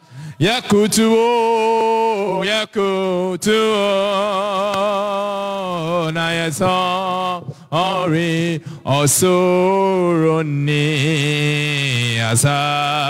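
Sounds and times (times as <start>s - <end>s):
man singing into microphone: 0.4s - 13.0s.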